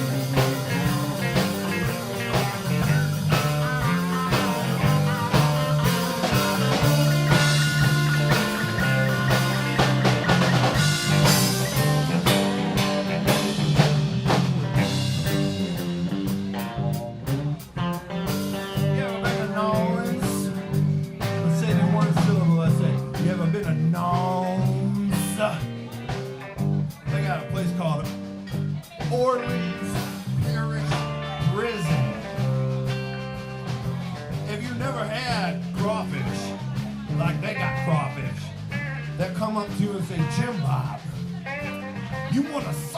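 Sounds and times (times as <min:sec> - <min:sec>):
bass line: 0:00.0 - 0:42.9
drum kit: 0:00.0 - 0:42.9
electric guitar lead lines: 0:00.0 - 0:42.9.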